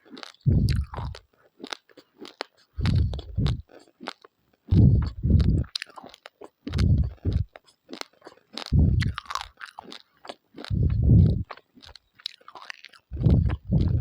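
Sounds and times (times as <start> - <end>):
deep chewing bursts: 0.0 - 14.0
raw rice crunching: 0.0 - 14.0.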